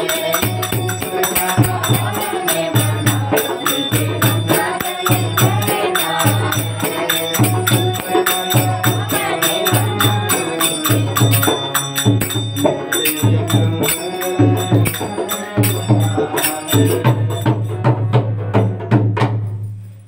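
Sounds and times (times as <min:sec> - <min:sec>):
hand cymbals clinking: 0:00.0 - 0:17.7
held melodic tones: 0:00.0 - 0:18.8
drum beat: 0:00.0 - 0:19.6.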